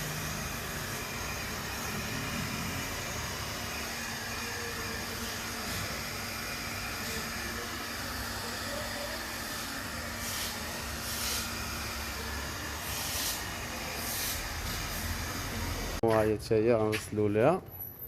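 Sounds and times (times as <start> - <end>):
hair dryer blowing: 0.0 - 16.0.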